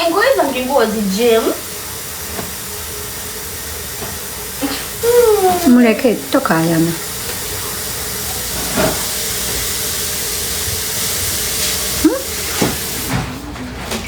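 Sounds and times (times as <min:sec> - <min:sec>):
steady hiss: 0:00.0 - 0:13.2.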